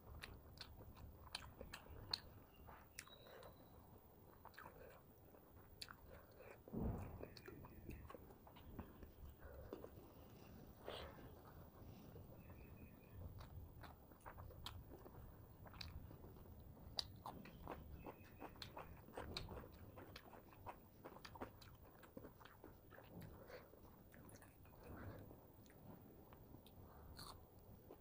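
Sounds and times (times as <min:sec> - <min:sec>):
person chewing and crunching food: 0:00.0 - 0:28.0.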